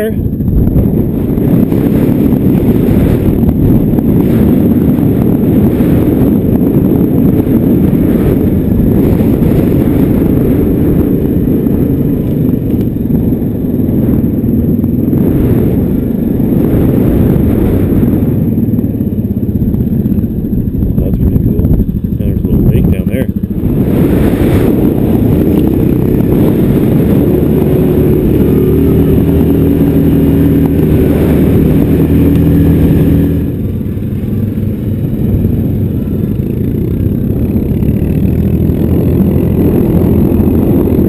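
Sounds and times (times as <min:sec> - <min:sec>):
quad bike engine running: 0:00.0 - 0:41.0.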